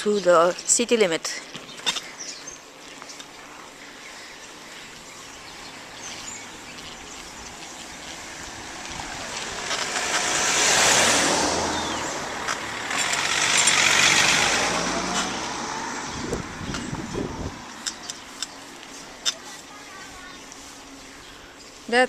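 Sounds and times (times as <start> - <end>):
motor vehicles passing: 0.0 - 22.0
road and tyre noise: 0.0 - 22.0.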